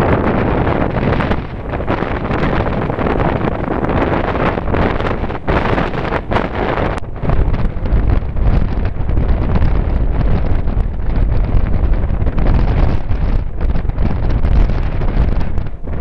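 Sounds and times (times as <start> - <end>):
heavy low wind rumble: 0.0 - 16.0
wind buffeting microphone: 0.0 - 16.0.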